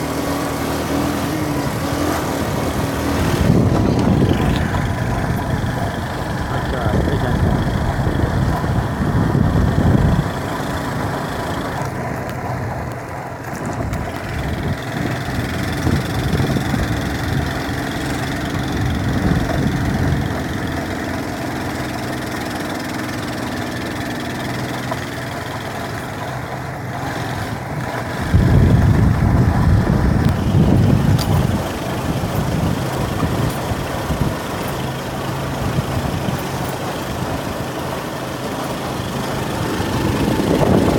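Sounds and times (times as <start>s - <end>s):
vehicle engine low rumble: 0.0s - 40.9s.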